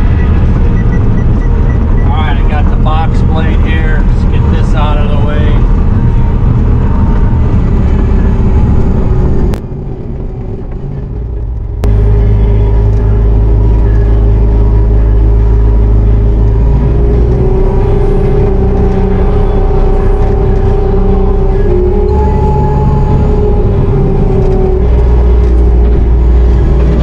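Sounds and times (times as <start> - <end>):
diesel engine under load: 0.0 - 27.0
steady whine: 0.0 - 27.0.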